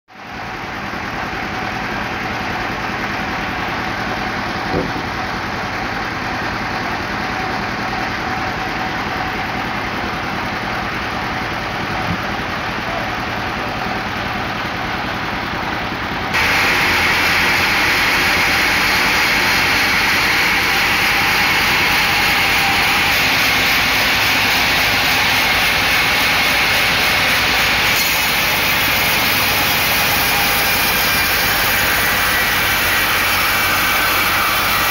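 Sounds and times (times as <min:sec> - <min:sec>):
stationary engine running: 0:00.3 - 0:34.9.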